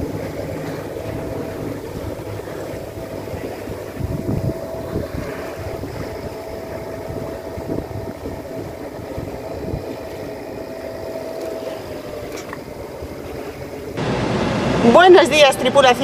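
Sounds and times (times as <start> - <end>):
boat engine running: 0.0 - 16.0
steady whine: 0.0 - 16.0.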